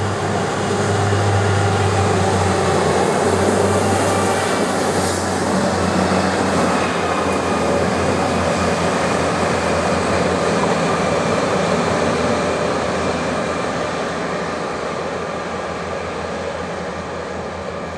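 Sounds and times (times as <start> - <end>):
rail grinder rumbling past: 0.0 - 17.9.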